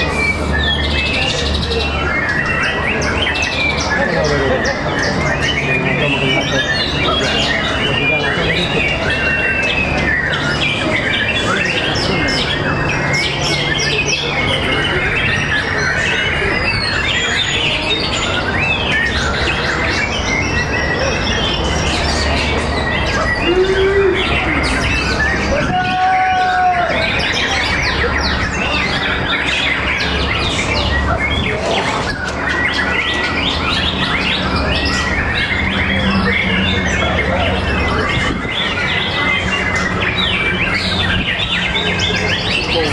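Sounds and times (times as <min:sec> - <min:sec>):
many songbirds singing: 0:00.0 - 0:42.9.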